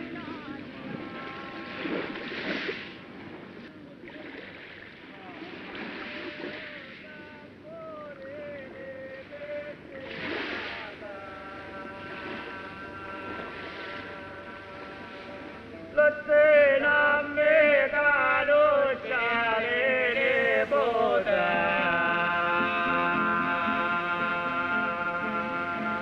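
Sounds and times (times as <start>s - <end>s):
man singing a slow chant: 0.0s - 2.2s, 5.2s - 26.0s.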